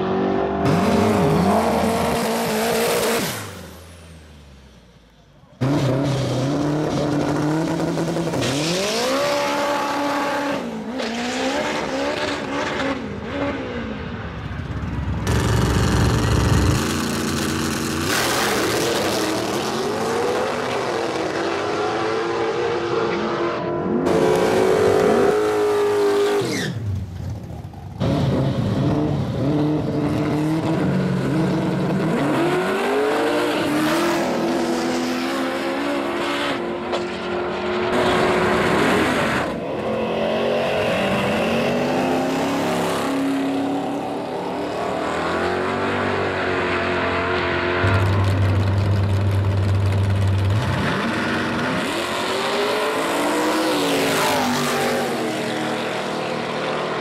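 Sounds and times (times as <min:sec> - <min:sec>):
drag cars accelerating: 0:00.0 - 0:03.9, 0:05.5 - 0:57.0.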